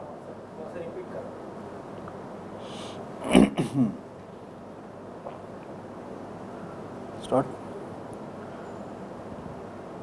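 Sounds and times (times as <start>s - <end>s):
faint hum: 0.0s - 10.0s
low background hiss: 0.0s - 10.0s.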